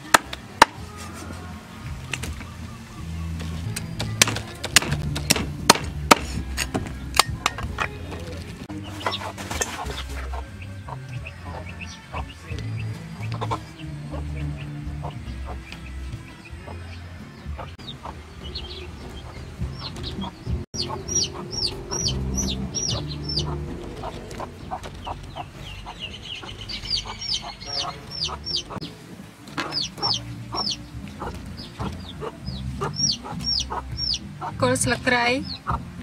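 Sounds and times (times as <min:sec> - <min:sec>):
chickens clucking: 0:07.0 - 0:36.0.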